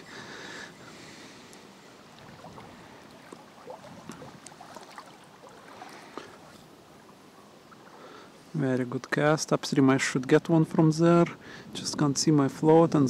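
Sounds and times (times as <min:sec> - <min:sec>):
shallow river trickling: 0:00.0 - 0:12.9.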